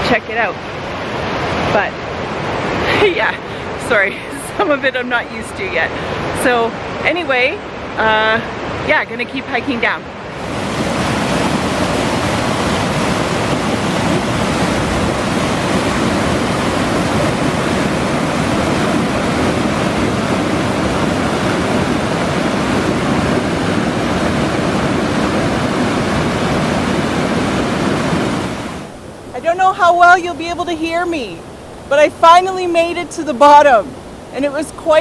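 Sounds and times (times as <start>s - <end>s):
river and waterfall rushing: 0.0s - 35.0s.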